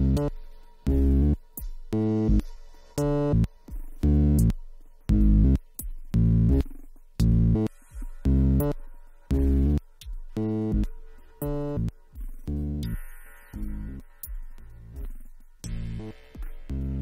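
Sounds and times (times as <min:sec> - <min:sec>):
synthesizer bass line: 0:00.0 - 0:00.3, 0:00.9 - 0:01.4, 0:03.1 - 0:17.0.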